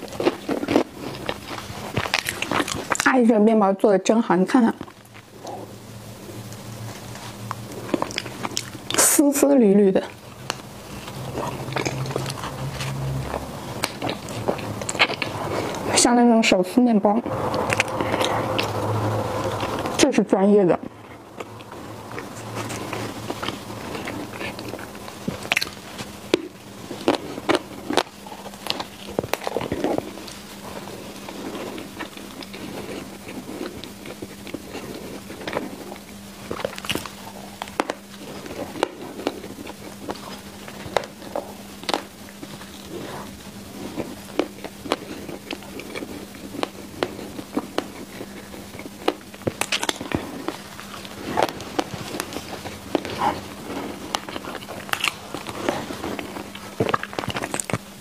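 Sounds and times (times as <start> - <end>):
close chewing with mouth clicks: 0.0 - 3.2, 4.7 - 16.0, 17.3 - 20.0, 20.8 - 58.0
faint steady hum: 0.0 - 58.0.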